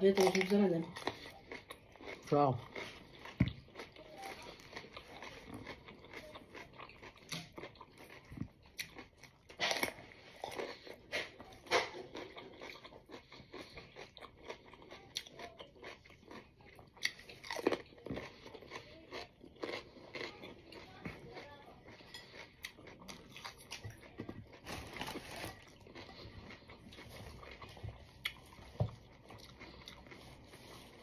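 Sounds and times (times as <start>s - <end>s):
crunching and chewing cucumber: 0.0s - 31.0s.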